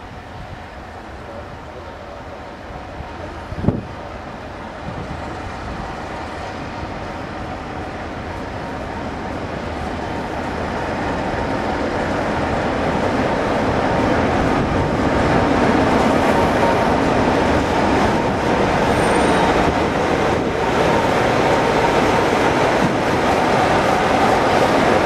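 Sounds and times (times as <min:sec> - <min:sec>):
diesel locomotive passing: 0:00.0 - 0:25.0
train wheel noise: 0:00.0 - 0:25.0.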